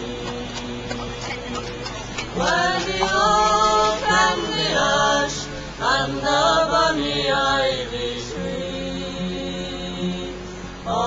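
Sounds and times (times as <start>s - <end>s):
folk song instrumental accompaniment: 0.0s - 11.0s
person singing: 0.0s - 11.0s.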